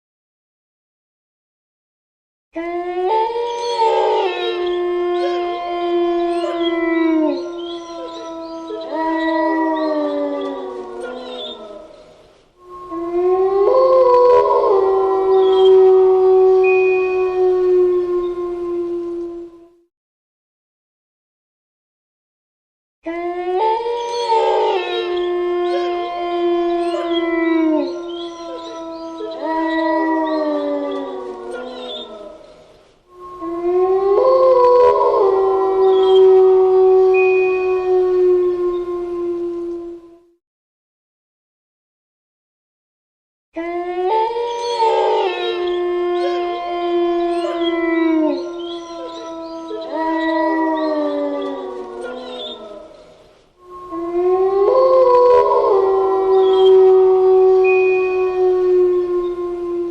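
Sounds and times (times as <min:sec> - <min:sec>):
wolves howling: 0:02.6 - 0:19.8, 0:23.0 - 0:40.4, 0:43.6 - 0:59.9.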